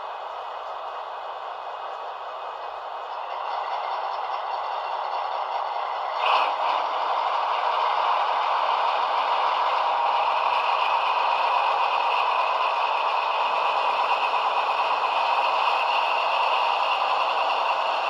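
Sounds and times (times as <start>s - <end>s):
diesel engine sound through small speaker: 0.0s - 18.0s.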